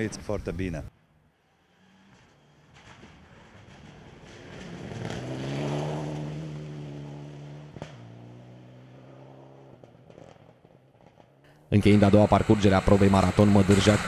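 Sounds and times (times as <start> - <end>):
rally car engine passing: 1.0 - 14.0.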